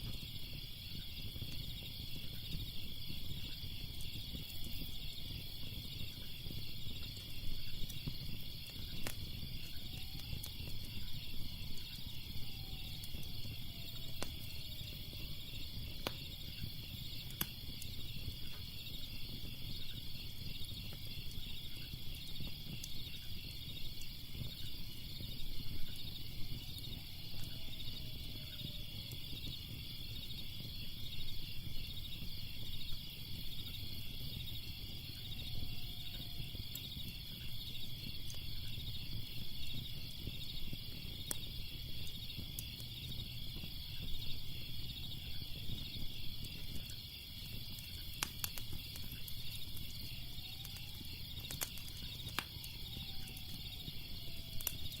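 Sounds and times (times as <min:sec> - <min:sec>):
crickets chirping: 0:00.0 - 0:55.0
fire crackling and popping: 0:00.0 - 0:55.0.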